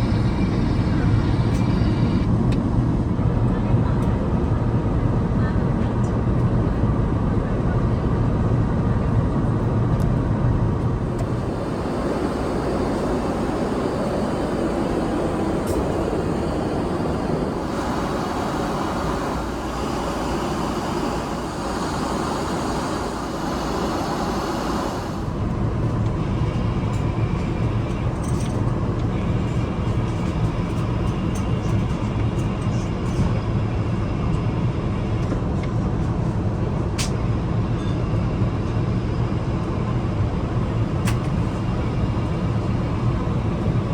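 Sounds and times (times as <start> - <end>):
airliner cabin rumble: 0.0 - 6.0, 9.3 - 37.6, 38.4 - 43.9.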